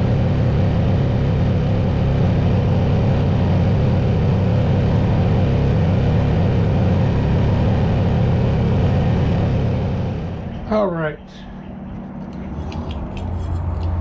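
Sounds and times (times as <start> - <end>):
riding mower engine running: 0.0 - 14.0.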